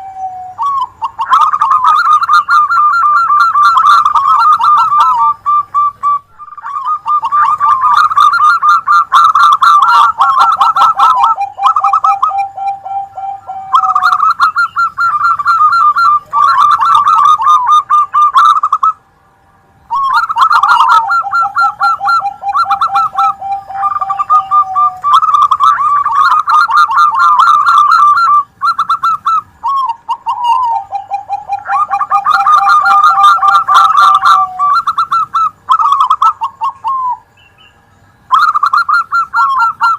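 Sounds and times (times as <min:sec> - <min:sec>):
doves cooing: 0:00.0 - 0:19.0, 0:19.8 - 0:39.9
low rolling bird notes: 0:00.0 - 0:39.9.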